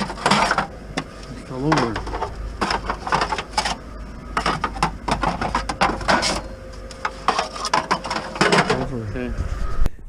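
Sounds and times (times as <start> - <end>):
junk knocking and rattling: 0.0 - 8.9.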